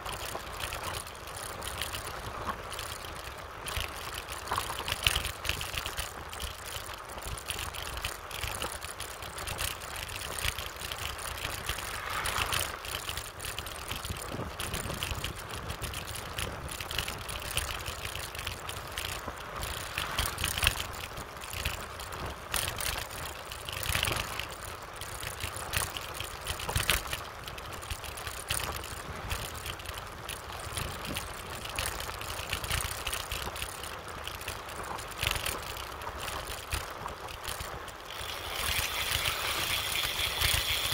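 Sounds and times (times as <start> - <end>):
bicycle tyre rumble on concrete: 0.0 - 40.9
small rattles and knocks: 0.0 - 40.9.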